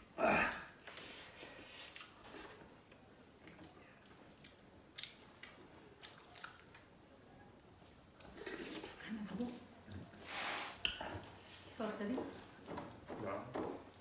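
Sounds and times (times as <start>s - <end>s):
faint chewing and mouth clicks: 0.7s - 14.0s.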